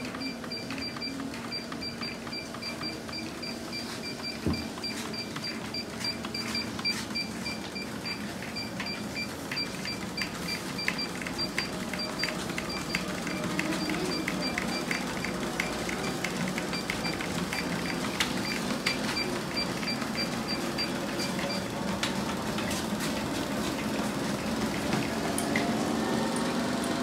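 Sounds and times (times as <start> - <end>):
barefoot steps on treadmill belt: 0.0 - 25.7
treadmill motor hum: 0.0 - 27.0.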